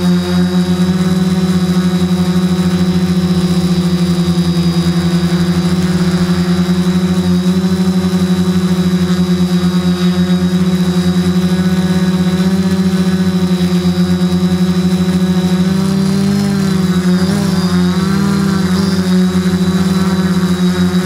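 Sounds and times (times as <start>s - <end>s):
quadcopter propellers humming: 0.0s - 21.0s.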